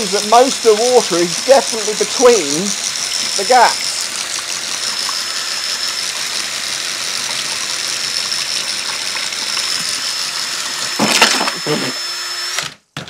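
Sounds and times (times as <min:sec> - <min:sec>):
water spraying: 0:00.0 - 0:11.8
cordless drill motor whine: 0:00.0 - 0:12.8.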